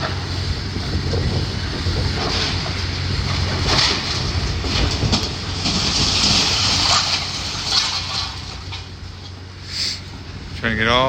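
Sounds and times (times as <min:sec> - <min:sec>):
rubble and metal debris clatter: 0:00.0 - 0:09.5
machinery engine hum: 0:00.0 - 0:11.0.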